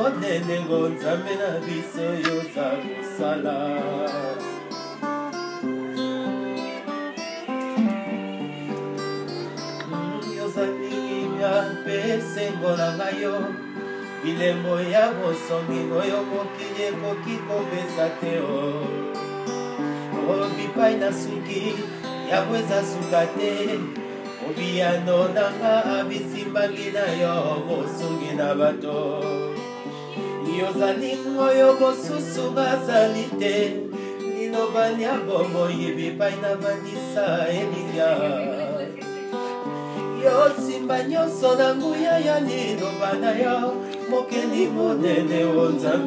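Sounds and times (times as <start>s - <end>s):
acoustic guitar: 0.0s - 46.0s
man singing: 0.0s - 46.0s.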